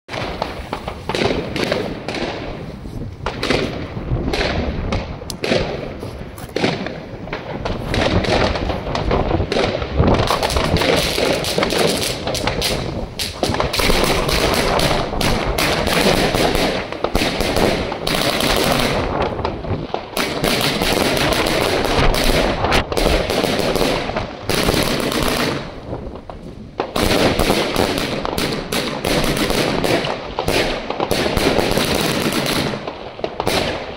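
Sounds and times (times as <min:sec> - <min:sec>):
firework shells bursting: 0:00.1 - 0:33.9
firework tubes launching: 0:00.1 - 0:33.9.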